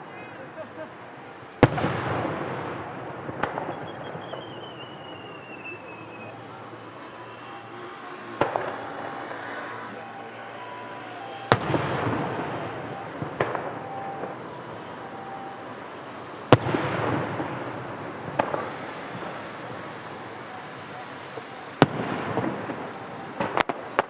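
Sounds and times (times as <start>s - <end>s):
firework shells bursting: 0.4s - 24.0s.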